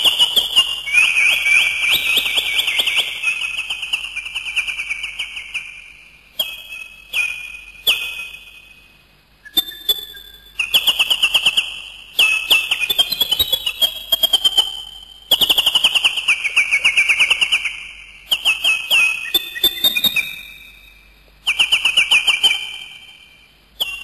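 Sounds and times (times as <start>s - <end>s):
bird chirping trills: 0.0s - 24.0s.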